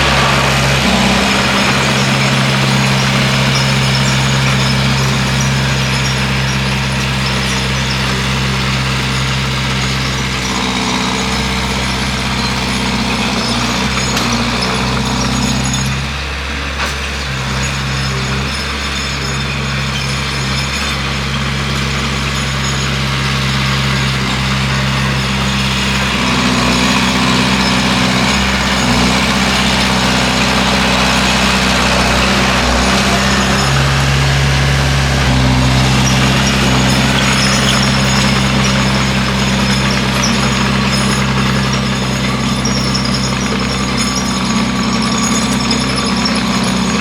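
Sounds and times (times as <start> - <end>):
bulldozer diesel engine running: 0.0 - 47.0.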